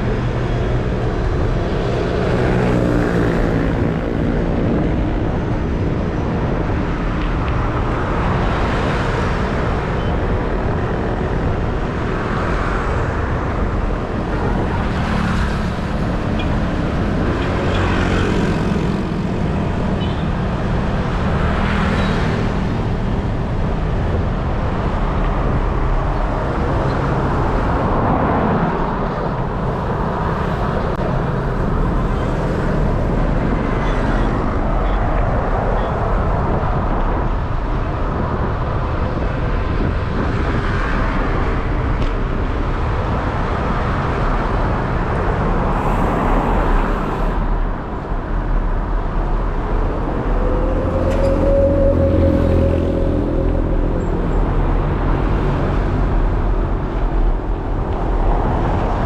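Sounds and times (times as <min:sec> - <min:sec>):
vehicles passing: 0:00.0 - 0:59.0
wind rumble: 0:00.0 - 0:59.0.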